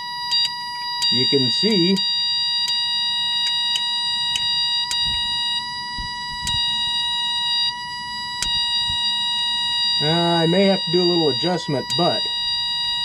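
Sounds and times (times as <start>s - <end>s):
high-pitched electronic buzzer tone: 0.0s - 13.0s.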